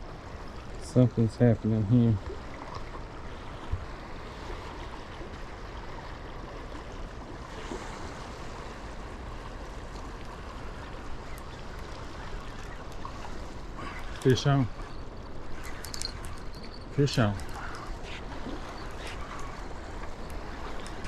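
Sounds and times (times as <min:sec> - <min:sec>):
river water rushing: 0:02.4 - 0:21.0.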